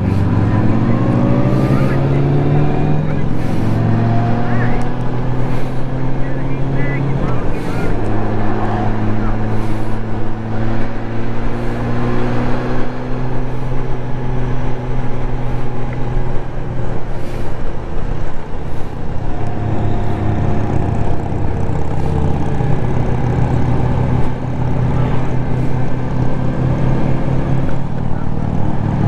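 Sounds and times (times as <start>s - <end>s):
motorcycle engine cruising: 0.0s - 29.0s
road noise: 0.0s - 29.0s.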